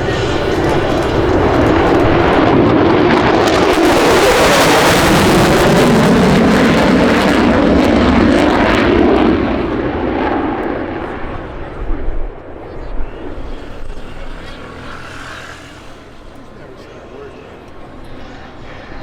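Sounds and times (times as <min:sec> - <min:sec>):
airplane engine roar: 0:00.0 - 0:19.0.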